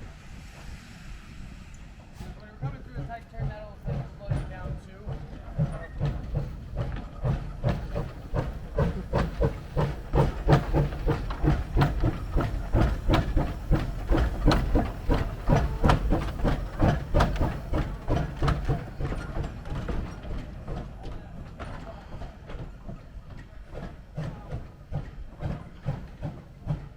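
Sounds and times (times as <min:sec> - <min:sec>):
steam locomotive chuffing: 0:00.0 - 0:26.9.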